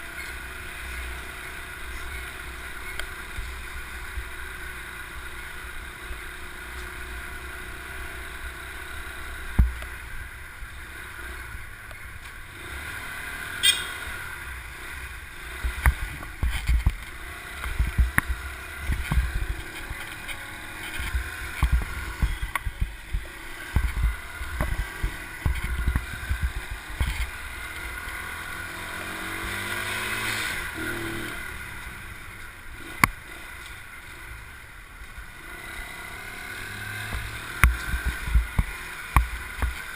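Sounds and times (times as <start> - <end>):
motorbike engine hum: 0.0 - 39.9
traffic noise: 0.0 - 39.9.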